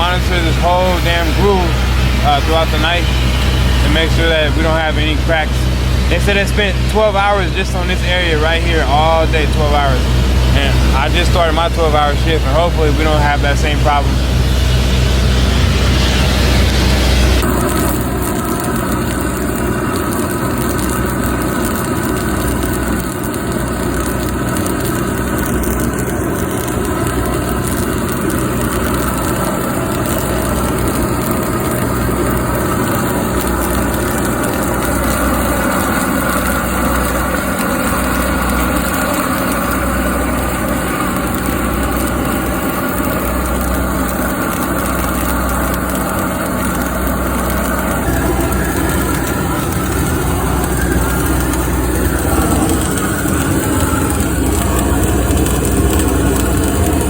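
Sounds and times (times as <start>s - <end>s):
engine idling with low throb: 0.0s - 57.0s.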